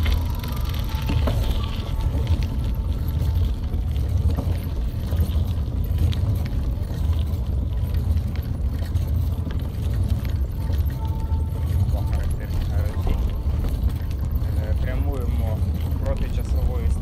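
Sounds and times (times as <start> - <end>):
faint clicks and rattles: 0.0 - 17.0
tyres rolling on rough asphalt: 0.0 - 17.0.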